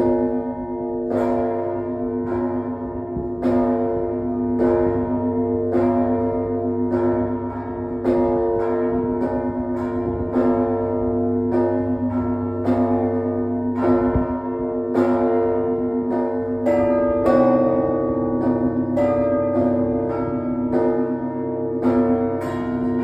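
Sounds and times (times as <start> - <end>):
church bells pealing: 0.0 - 23.0
low hum of large bells: 0.0 - 23.0.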